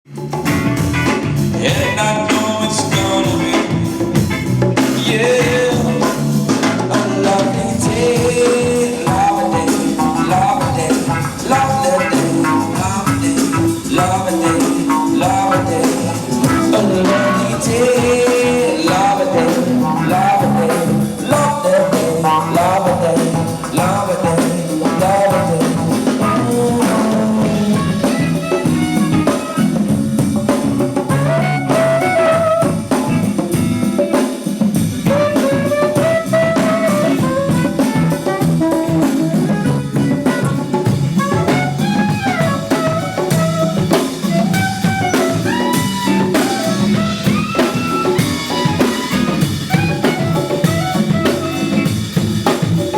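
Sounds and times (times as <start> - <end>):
drum kit groove: 0.0 - 52.9
live band playing: 0.1 - 52.9.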